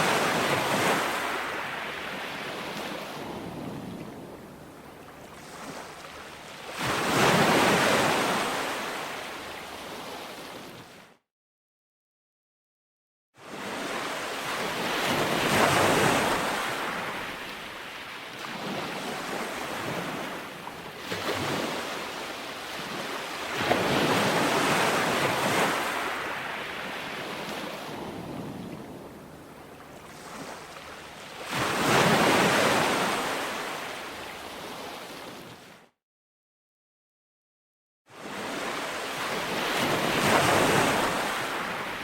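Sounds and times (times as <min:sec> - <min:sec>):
ocean waves breaking on shore: 0:00.0 - 0:11.2, 0:13.4 - 0:35.9, 0:38.1 - 0:42.0.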